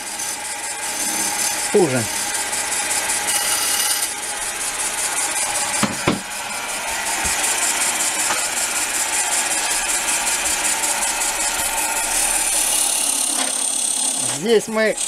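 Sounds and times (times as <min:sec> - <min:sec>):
lathe tool scraping wood: 0:00.0 - 0:15.0.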